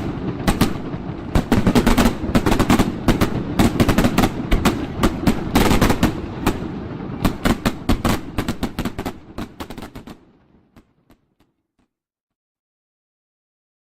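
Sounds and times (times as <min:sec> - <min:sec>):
fireworks bangs and crackles: 0:00.0 - 0:11.5.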